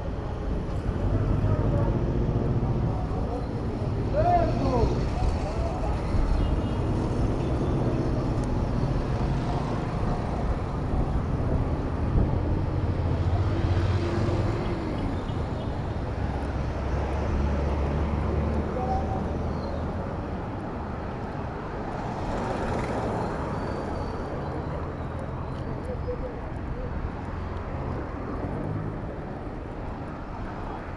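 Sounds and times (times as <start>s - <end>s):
motor vehicle engines humming: 0.0s - 30.9s.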